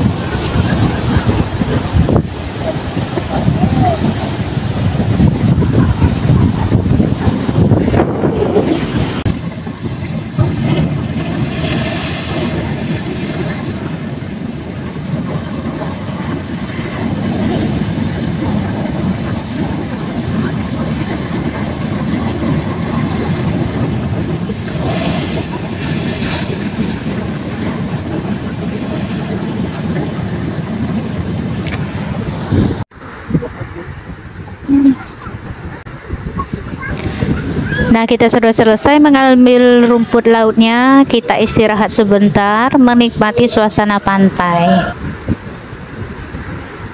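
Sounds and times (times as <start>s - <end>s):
surf breaking over rocks: 0.0s - 46.9s
wind rumbling on microphone: 0.0s - 46.9s.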